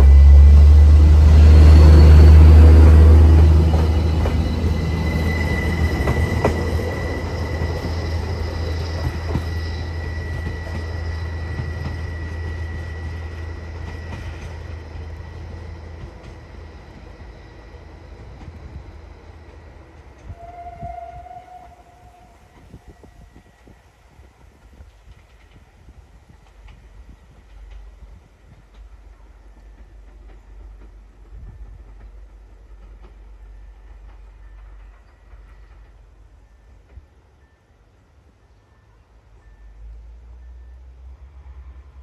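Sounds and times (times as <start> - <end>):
train passing rumble: 0.0 - 42.0.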